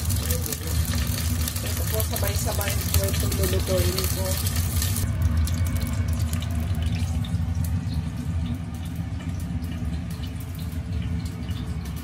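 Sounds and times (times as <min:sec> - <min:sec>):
oil heating in a wok: 0:00.0 - 0:12.0.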